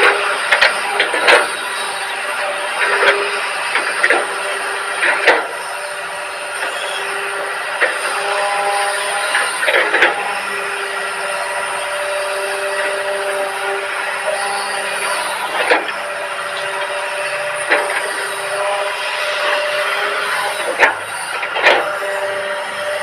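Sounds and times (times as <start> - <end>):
excavator hydraulic whine: 0.0 - 23.0.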